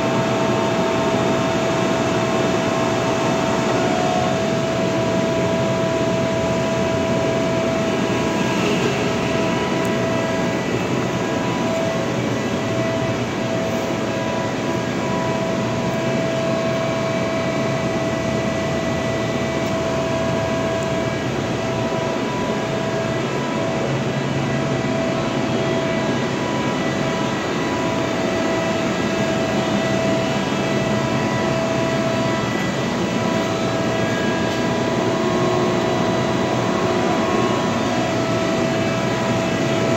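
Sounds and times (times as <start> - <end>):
boring mill humming: 0.0 - 39.9
mid-pitched machine whine: 0.0 - 39.9.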